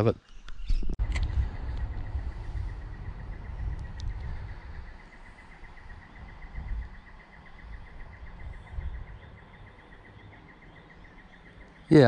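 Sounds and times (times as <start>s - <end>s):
insect chirping: 0.2s - 12.0s.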